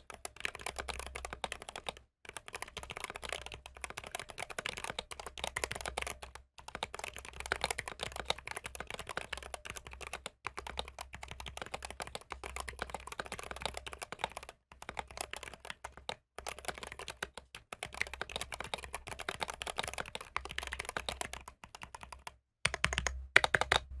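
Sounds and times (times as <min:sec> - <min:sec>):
fast typing on mechanical keyboard: 0:00.0 - 0:24.0.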